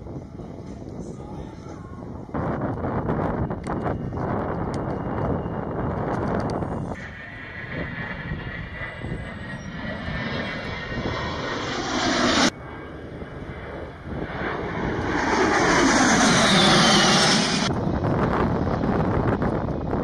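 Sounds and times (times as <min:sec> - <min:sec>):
jet engines rushing past overhead: 0:00.0 - 0:20.0.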